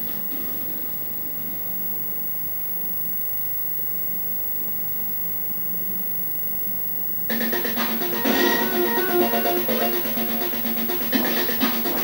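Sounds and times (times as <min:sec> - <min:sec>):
faint high-pitched tones: 0:00.0 - 0:11.6
electrical hum and hiss: 0:00.0 - 0:12.0.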